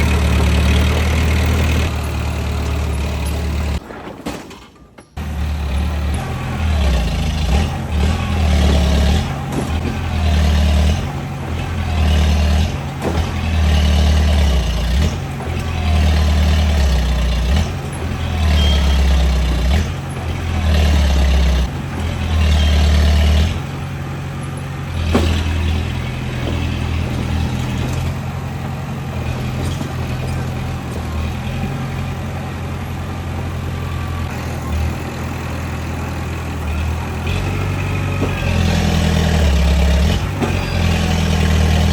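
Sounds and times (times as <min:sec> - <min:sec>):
bulldozer diesel engine: 0:00.0 - 0:41.9.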